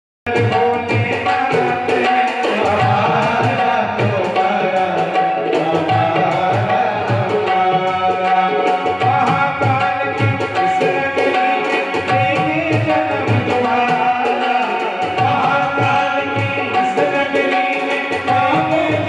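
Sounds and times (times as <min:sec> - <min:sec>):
man singing: 0:00.3 - 0:19.0
sustained keyboard melody: 0:00.3 - 0:19.0
tabla rhythm: 0:00.3 - 0:19.0.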